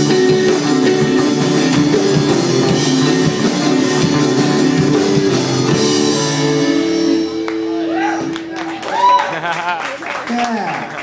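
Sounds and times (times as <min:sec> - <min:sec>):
ska band playing live: 0:00.0 - 0:09.8.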